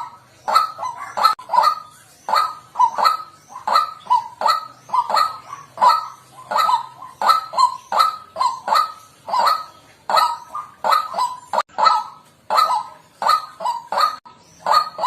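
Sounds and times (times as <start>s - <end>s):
waterhen harsh calls: 0.0s - 15.0s.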